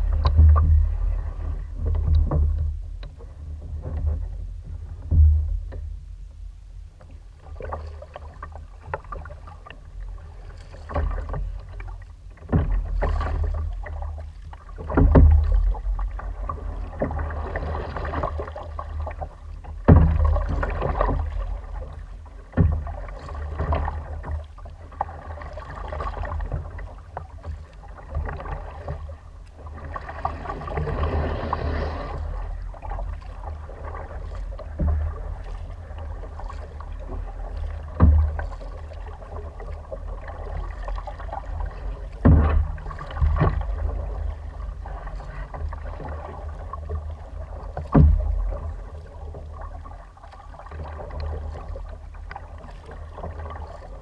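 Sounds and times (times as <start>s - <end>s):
paddle splashing through water: 0.0s - 5.9s, 7.0s - 54.0s
low rumble: 0.0s - 54.0s.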